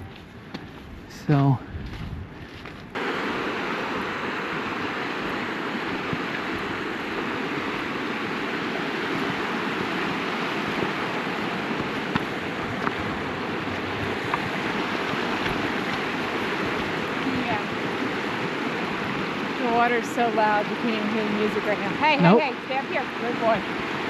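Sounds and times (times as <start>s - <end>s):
river water rushing: 3.0s - 24.0s.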